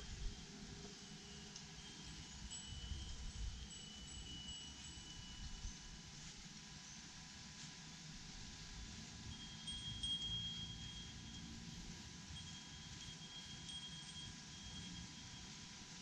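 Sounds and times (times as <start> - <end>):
small bells tinkling: 0.2 - 7.2, 9.0 - 16.0.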